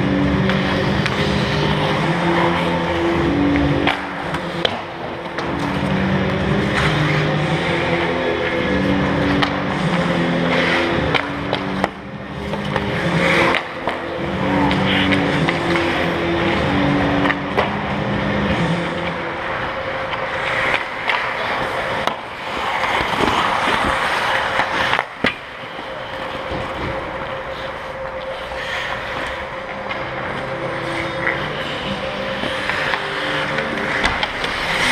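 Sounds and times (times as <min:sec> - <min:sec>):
skates scraping on ice: 0:00.0 - 0:34.9
steady rink hum: 0:00.0 - 0:34.9
sticks and puck knocking: 0:00.3 - 0:34.9.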